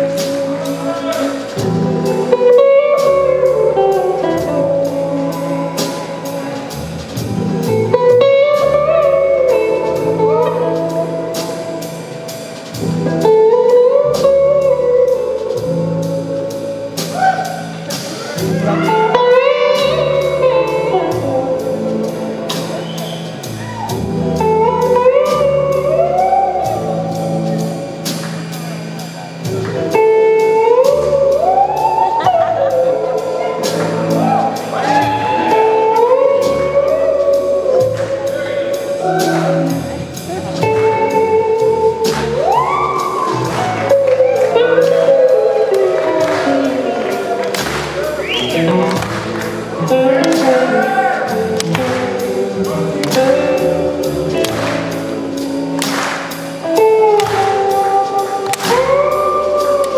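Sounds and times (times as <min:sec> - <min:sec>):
bass guitar: 0:00.0 - 0:59.9
drum and cymbal beat: 0:00.0 - 0:59.9
electric slide guitar solo: 0:00.0 - 0:59.9
live rock band playing: 0:00.0 - 0:59.9.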